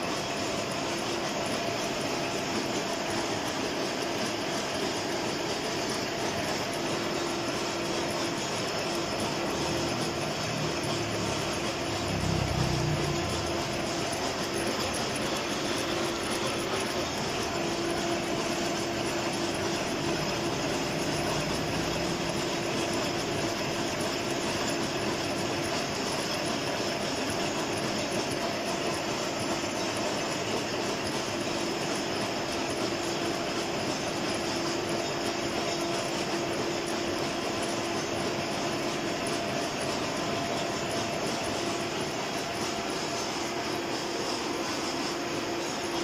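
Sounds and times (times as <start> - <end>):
gear cutting machine running: 0.0 - 46.0.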